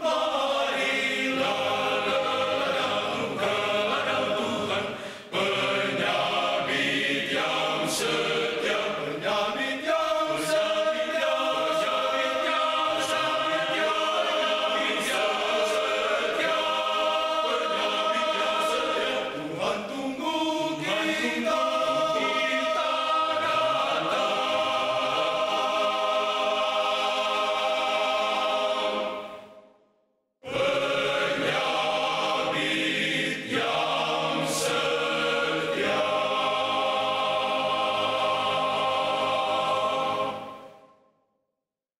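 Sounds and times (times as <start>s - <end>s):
male choir singing: 0.0s - 29.6s, 30.4s - 40.8s.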